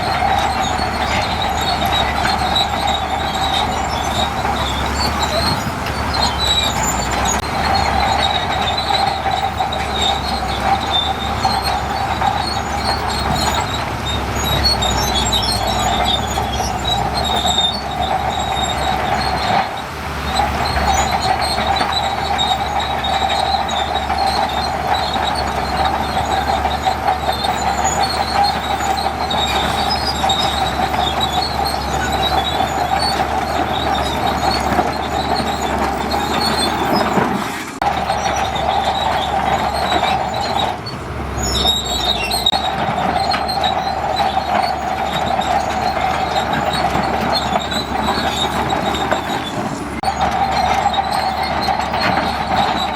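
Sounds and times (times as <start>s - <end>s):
bulldozer diesel engine: 0.0s - 52.9s
steel tracks squealing and clattering: 0.0s - 52.9s.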